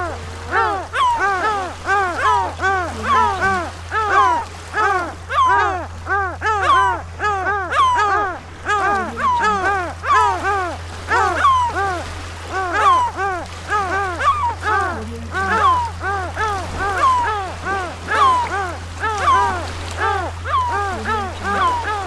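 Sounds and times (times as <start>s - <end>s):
gull squawking: 0.0s - 22.0s
steady low hum: 0.0s - 22.0s.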